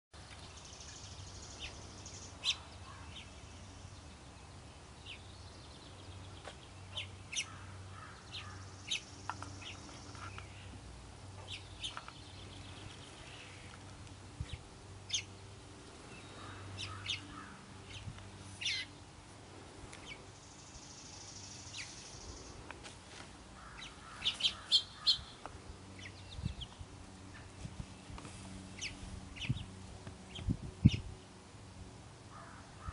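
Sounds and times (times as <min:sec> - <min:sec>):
songbirds chirping: 0:00.2 - 0:32.9.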